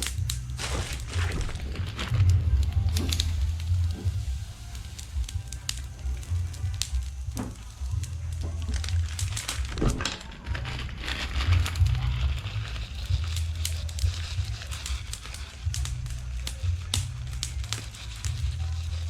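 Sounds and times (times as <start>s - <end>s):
campfire crackling and popping: 0.0s - 19.0s
low rumble: 0.0s - 19.0s.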